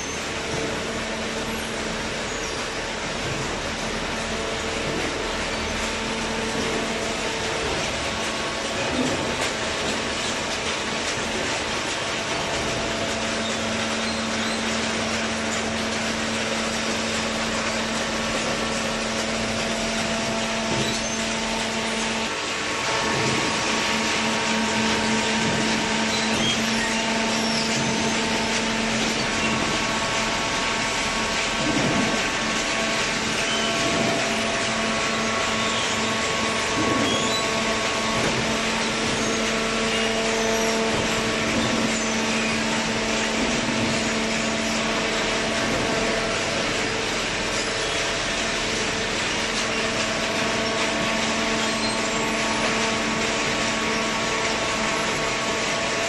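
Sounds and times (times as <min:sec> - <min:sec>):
shredder machine hum: 0:00.0 - 0:56.0.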